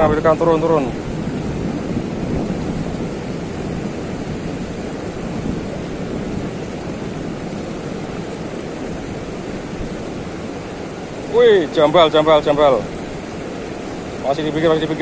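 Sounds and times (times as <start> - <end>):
river current rushing: 0.0 - 15.0.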